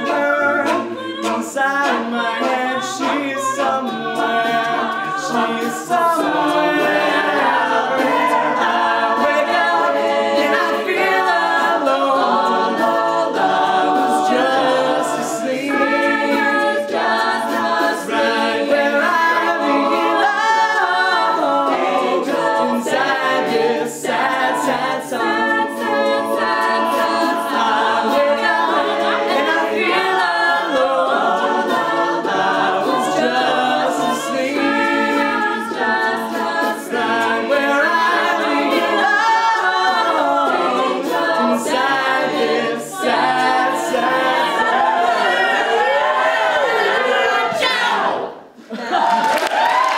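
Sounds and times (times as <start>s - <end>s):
a cappella group singing in harmony: 0.0s - 49.9s.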